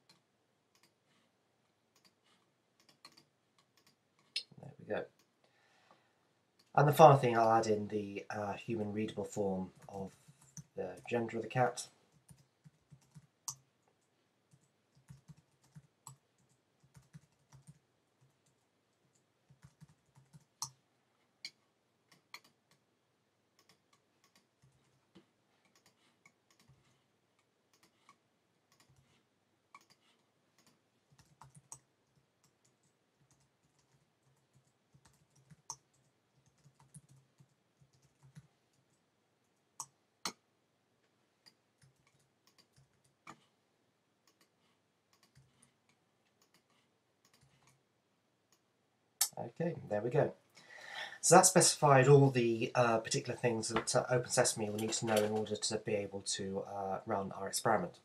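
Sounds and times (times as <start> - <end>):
faint keyboard typing: 0.0 - 22.9, 23.5 - 40.4, 41.0 - 43.6, 44.2 - 47.9, 52.9 - 56.0.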